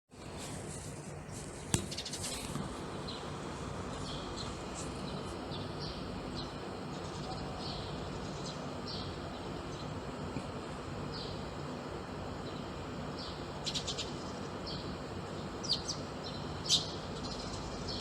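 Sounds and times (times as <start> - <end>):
low background hum: 0.1 - 18.0
small birds chirping: 0.2 - 18.0.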